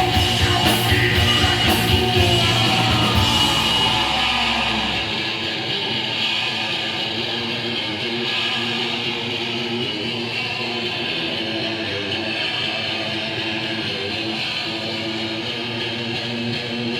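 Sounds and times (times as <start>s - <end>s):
distorted electric guitar: 0.0s - 16.9s.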